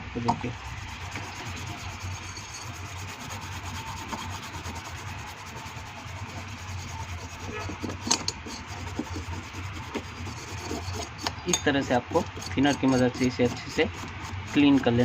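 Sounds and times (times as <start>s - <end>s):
brush scrubbing circuit board: 0.4s - 15.0s.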